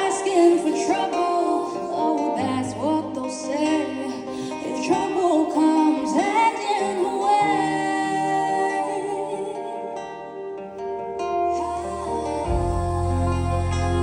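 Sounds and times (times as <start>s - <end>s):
woman singing: 0.0s - 10.5s, 11.4s - 14.0s
guitar accompaniment: 0.0s - 14.0s.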